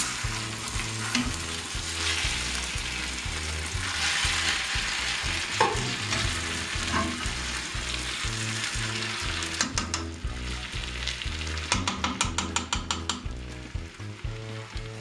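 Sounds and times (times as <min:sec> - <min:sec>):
potatoes sizzling in oil: 0:00.0 - 0:15.0.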